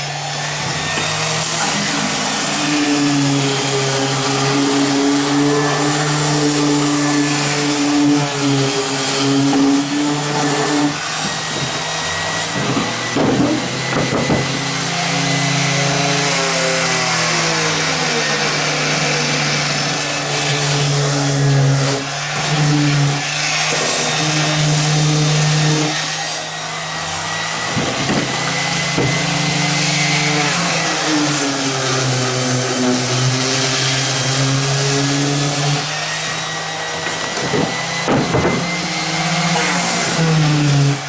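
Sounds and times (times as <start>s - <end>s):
electric sander on wood: 0.0s - 41.0s.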